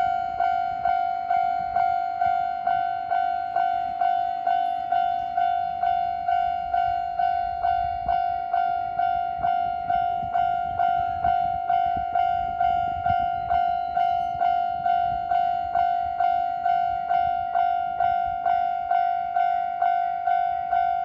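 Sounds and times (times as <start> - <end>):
level crossing warning bell: 0.0 - 21.0.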